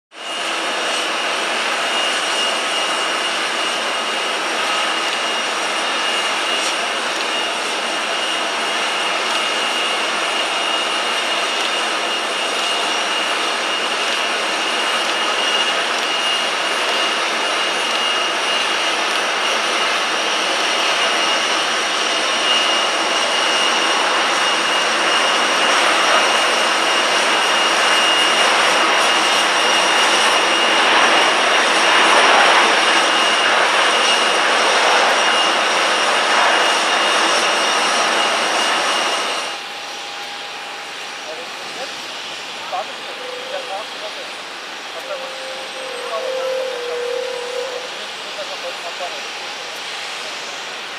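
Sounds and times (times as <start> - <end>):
jet engines whining on landing: 0.1 - 50.9.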